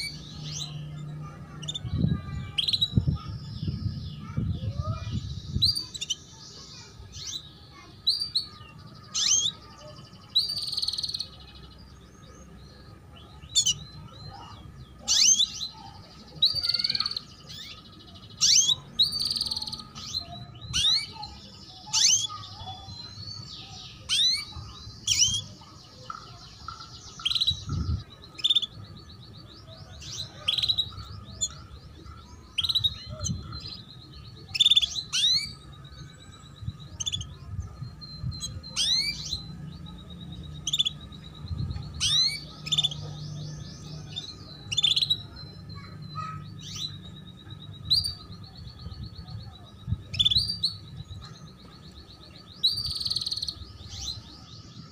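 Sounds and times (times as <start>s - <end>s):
canary chirping: 0.0s - 54.9s.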